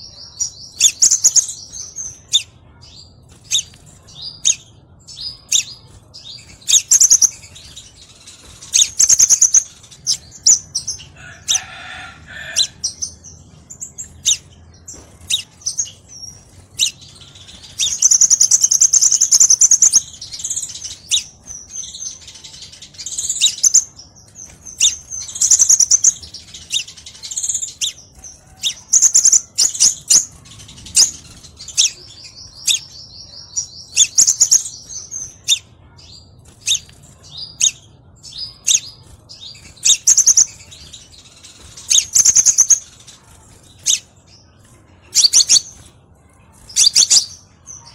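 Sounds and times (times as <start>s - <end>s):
small songbird chirping and trilling: 0.0s - 47.9s.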